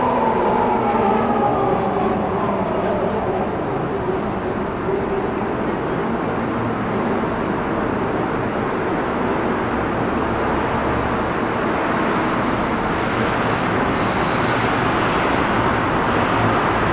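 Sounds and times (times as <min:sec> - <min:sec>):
road traffic noise: 0:00.0 - 0:16.9.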